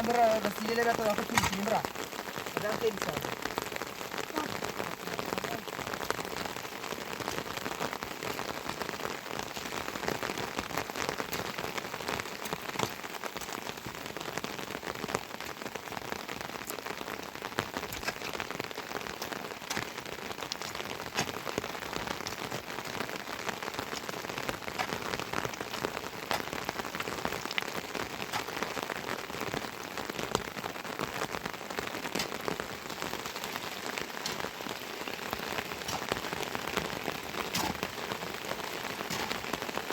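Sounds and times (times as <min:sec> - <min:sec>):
heavy rain falling: 0:00.0 - 0:39.9
raindrops pattering on surfaces: 0:00.0 - 0:39.9.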